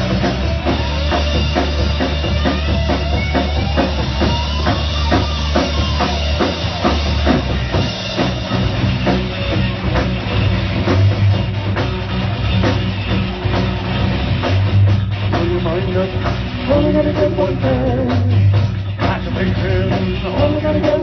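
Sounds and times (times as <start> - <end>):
drum kit beat: 0.0 - 21.0
live rock band playing: 0.0 - 21.0
low bass notes: 0.0 - 21.0.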